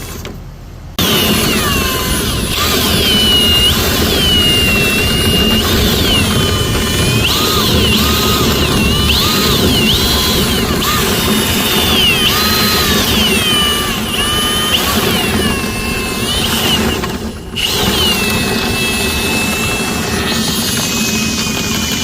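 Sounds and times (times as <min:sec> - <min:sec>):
brush scraping inside duct: 0:01.0 - 0:22.0
power drill motor whine: 0:01.0 - 0:22.0.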